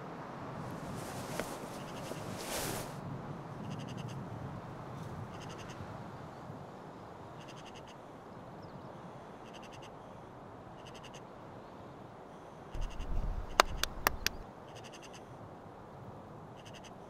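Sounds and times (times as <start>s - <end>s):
outdoor ambience hiss: 0.0s - 17.0s.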